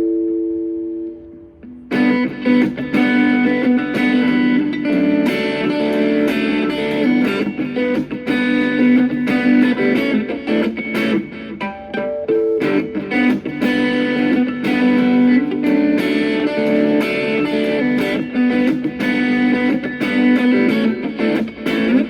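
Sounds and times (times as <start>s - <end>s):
guitar notes: 0.0s - 22.0s
percussive beat: 1.9s - 22.0s.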